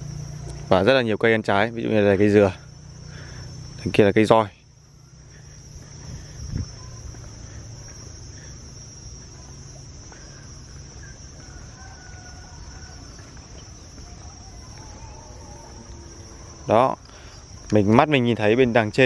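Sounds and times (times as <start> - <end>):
crickets buzzing: 0.0 - 19.0.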